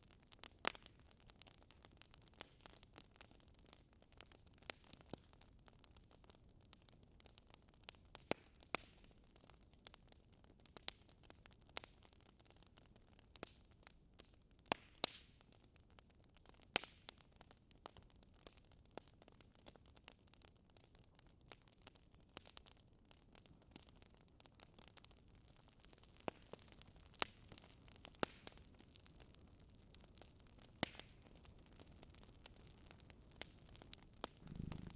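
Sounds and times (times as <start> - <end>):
wood fire crackling in fireplace: 0.0 - 34.9.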